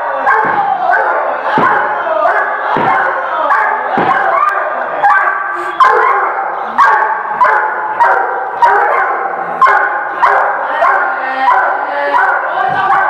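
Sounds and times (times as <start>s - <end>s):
dog barking: 0.1s - 13.0s.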